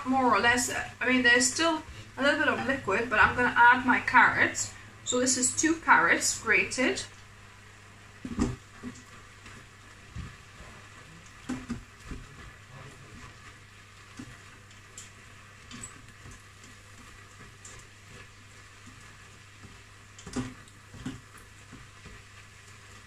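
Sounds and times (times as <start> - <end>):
vegetables sizzling in a pot: 0.0 - 23.0.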